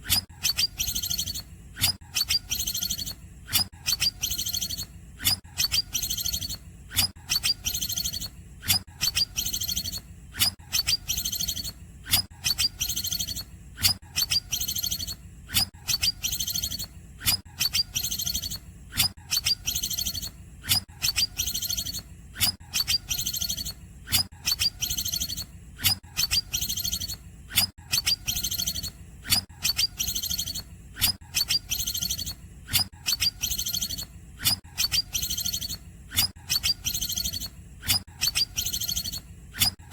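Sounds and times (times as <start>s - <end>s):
bird chirping: 0.4s - 3.2s, 3.8s - 4.9s, 5.6s - 8.4s, 9.0s - 10.0s, 10.7s - 11.8s, 12.4s - 16.9s, 17.6s - 22.0s, 22.7s - 23.8s, 24.4s - 25.5s, 26.2s - 27.2s, 27.9s - 39.7s.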